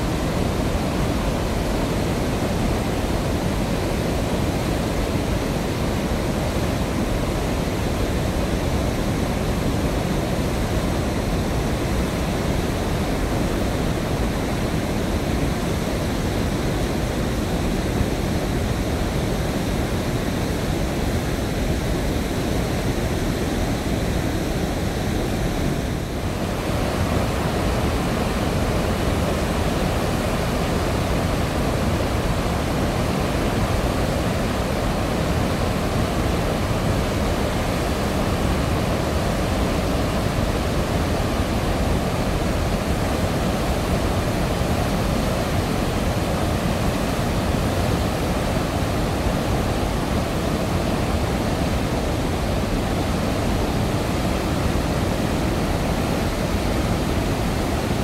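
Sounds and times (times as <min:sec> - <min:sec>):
water roaring through spillway: 0:00.0 - 0:58.0.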